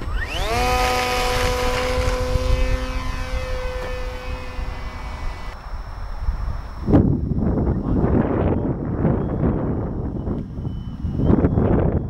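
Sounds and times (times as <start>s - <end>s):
model plane electric motor whine: 0.0s - 12.0s
wind rumble on microphone: 0.0s - 12.0s.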